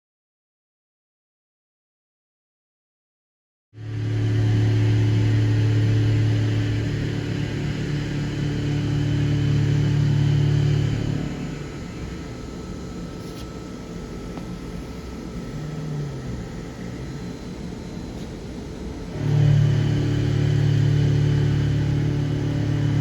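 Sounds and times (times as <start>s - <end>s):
low machine drone: 3.8s - 23.0s.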